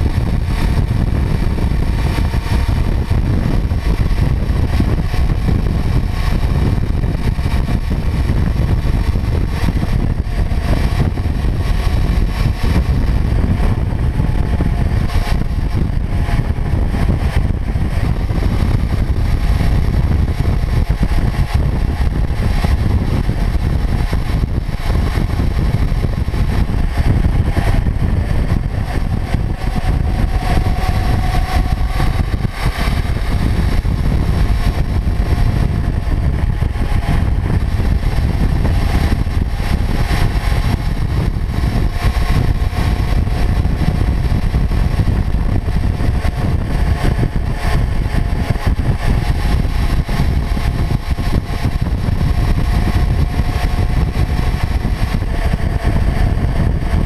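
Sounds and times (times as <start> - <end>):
motorcycle engine droning: 0.0 - 57.0
tyre noise on road: 0.0 - 57.0
wind rumble on microphone: 0.0 - 57.0.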